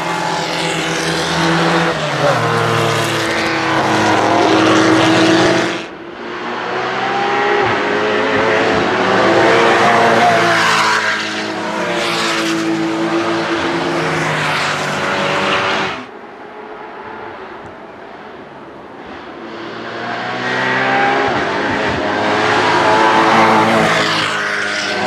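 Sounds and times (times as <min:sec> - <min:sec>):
racing car revving past: 0:00.0 - 0:16.1, 0:19.0 - 0:25.0
racing car engine at full throttle: 0:00.0 - 0:25.0.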